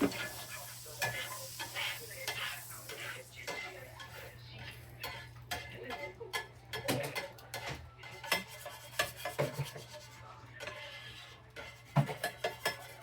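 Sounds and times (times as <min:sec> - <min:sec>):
utensil scraping a frying pan: 0:00.0 - 0:13.0.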